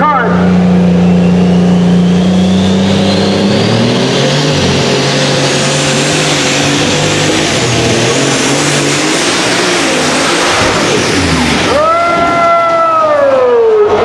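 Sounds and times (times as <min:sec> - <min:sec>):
high whine: 0:00.0 - 0:14.0
tractor engine running hard: 0:00.0 - 0:14.0.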